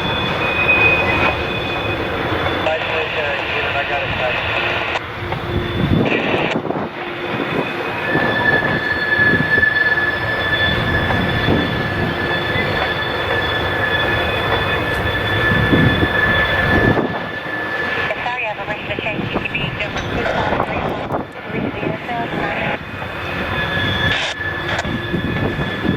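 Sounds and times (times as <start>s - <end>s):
train wheels rumbling and clanking: 0.0s - 2.7s, 4.4s - 18.3s, 19.2s - 25.9s
high-pitched wheel squeal: 0.0s - 3.7s, 4.4s - 21.3s, 22.3s - 25.9s.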